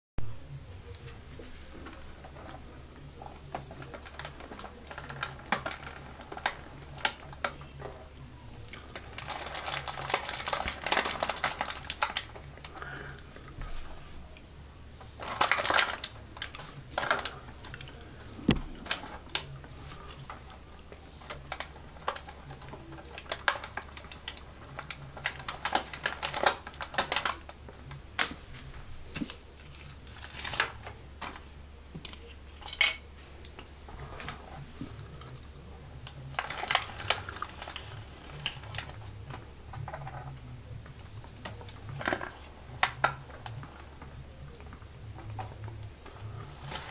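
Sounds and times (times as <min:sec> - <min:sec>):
plastic parts clicking and rattling: 0:00.8 - 0:14.0, 0:15.0 - 0:46.9.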